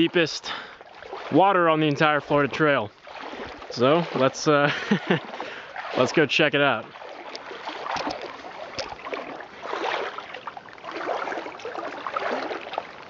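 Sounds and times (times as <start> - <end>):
legs wading through water: 0.0 - 13.0.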